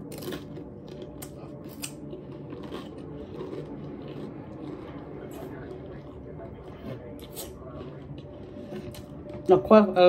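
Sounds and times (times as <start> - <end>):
chewing crisp chips: 0.0 - 9.5.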